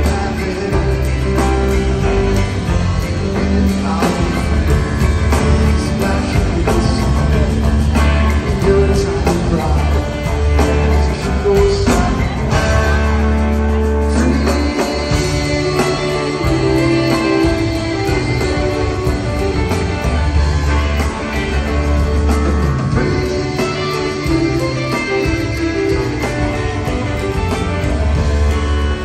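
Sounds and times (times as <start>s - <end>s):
held bass notes: 0.0s - 29.0s
live rock band playing: 0.0s - 29.0s.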